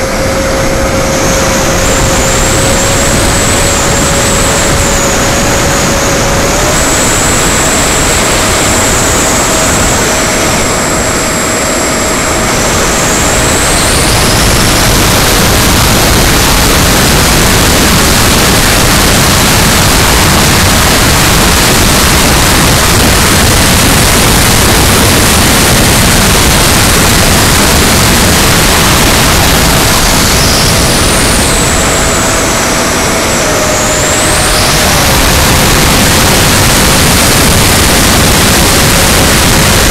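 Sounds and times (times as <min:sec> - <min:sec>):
electric ducted fan whine: 0:00.0 - 0:39.9
wind rush on microphone: 0:00.0 - 0:39.9.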